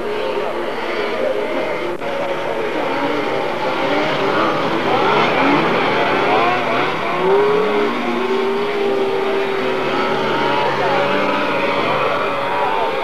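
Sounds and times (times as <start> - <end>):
snowmobile engines revving: 0.0 - 13.0.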